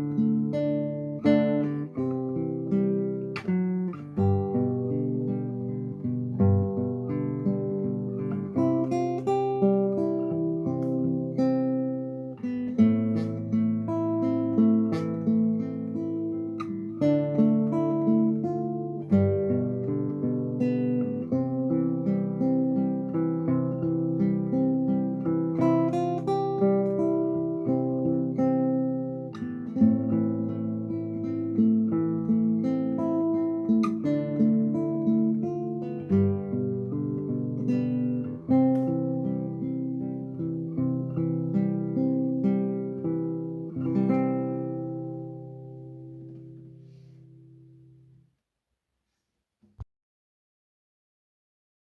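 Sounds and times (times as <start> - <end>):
classical guitar fingerstyle: 0.0 - 48.2.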